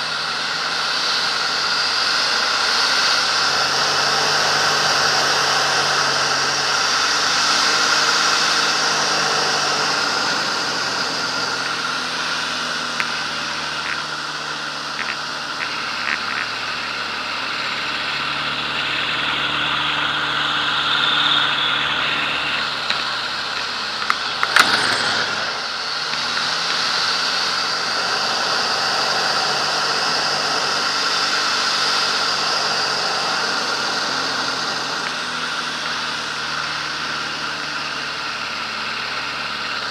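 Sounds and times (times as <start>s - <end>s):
propeller plane engine running: 0.0s - 39.9s.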